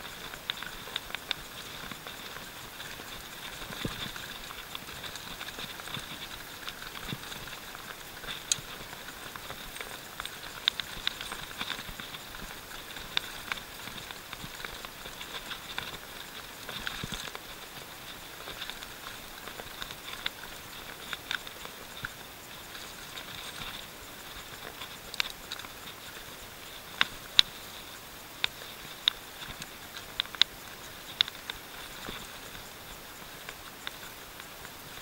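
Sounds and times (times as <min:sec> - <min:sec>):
bike clicks and rattles over bumps: 0:00.0 - 0:35.0
tyre hiss and wind: 0:00.0 - 0:35.0.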